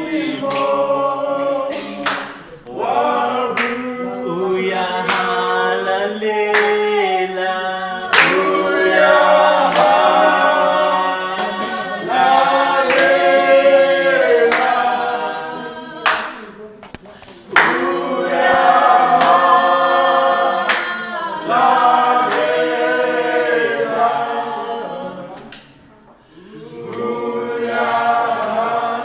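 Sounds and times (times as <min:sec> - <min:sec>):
group singing in harmony: 0:00.0 - 0:29.0.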